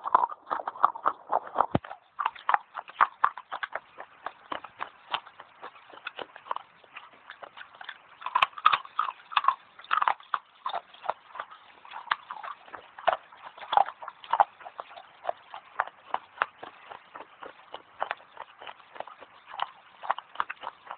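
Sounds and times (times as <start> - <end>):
dry clay being chewed: 0.0 - 20.9.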